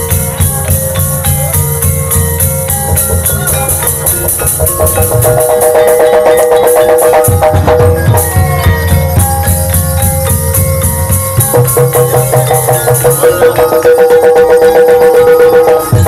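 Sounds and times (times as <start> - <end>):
drumming: 0.0 - 16.0.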